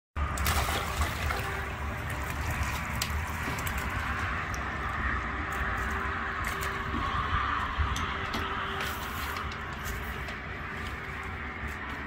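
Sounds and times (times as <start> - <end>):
trickling water: 0.2 - 12.0.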